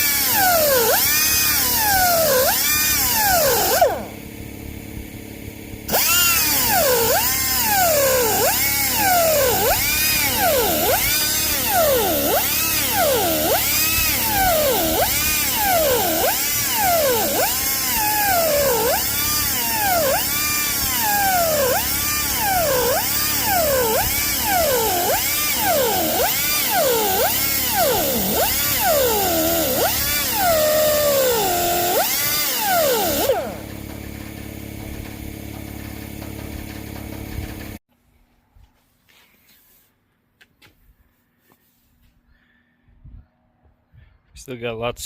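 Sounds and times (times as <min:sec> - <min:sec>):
electric power tool working wood: 0:00.0 - 0:04.4, 0:05.9 - 0:37.8.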